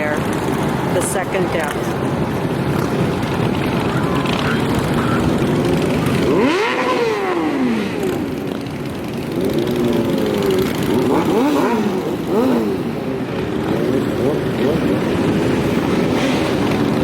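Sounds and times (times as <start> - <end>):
motorcycles revving past: 0.0 - 17.0.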